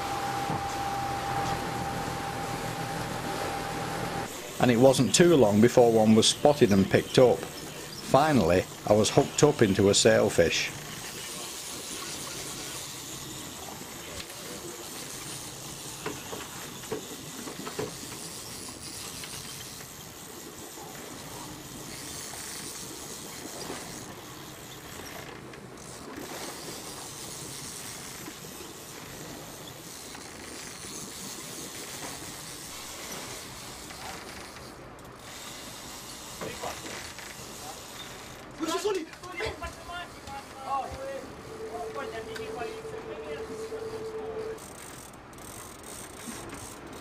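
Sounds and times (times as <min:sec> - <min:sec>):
sea: 0:00.0 - 0:47.0
wind: 0:00.0 - 0:47.0.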